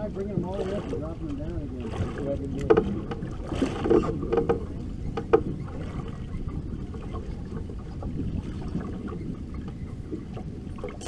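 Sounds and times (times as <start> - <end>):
water slapping against boat hull: 0.0 - 11.0
wind noise: 0.0 - 11.0.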